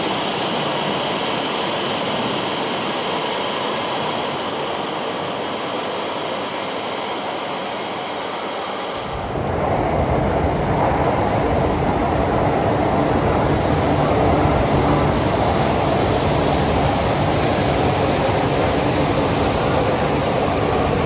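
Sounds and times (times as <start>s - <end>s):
high-speed train rushing past: 0.0s - 21.0s.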